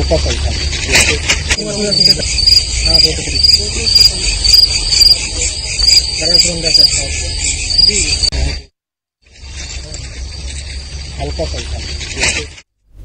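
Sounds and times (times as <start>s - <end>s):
crickets chirping: 0.0s - 8.7s, 9.3s - 12.6s.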